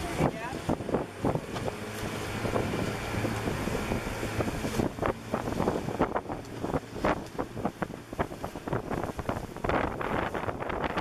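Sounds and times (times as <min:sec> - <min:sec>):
boat engine humming: 0:00.0 - 0:11.0
wind buffeting microphone: 0:00.0 - 0:11.0.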